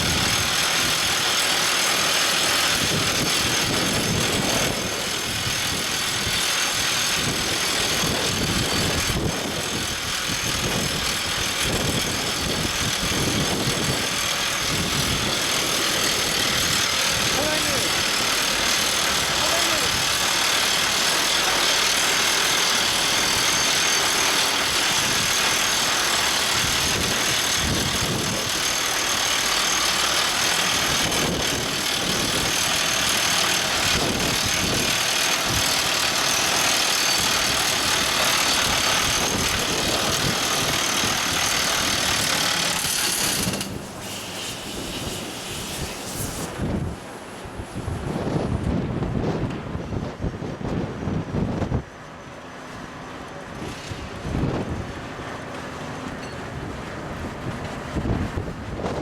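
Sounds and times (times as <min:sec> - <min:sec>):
drill rig running: 0:00.0 - 0:47.1, 0:51.1 - 0:59.0.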